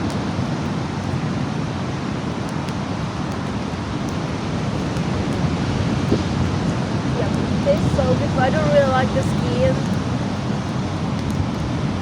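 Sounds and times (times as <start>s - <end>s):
strong wind buffeting microphone: 0.0s - 12.0s
surf on beach: 0.0s - 12.0s.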